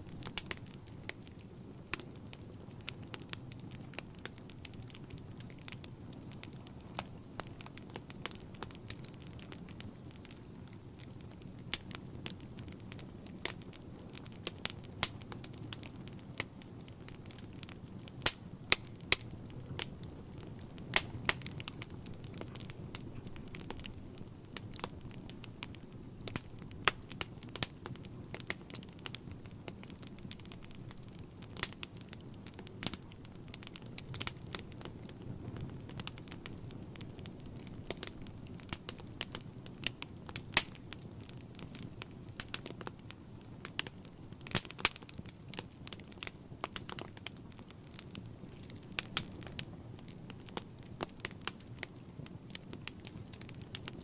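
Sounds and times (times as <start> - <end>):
logs crackling and popping: 0.0 - 54.0
rumble of flames: 0.0 - 54.0.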